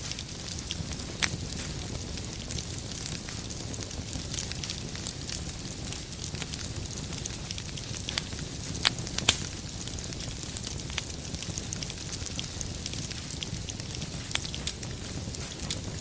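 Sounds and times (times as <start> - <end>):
sharp fire pops: 0.0 - 16.0
wood fire crackling: 0.0 - 16.0.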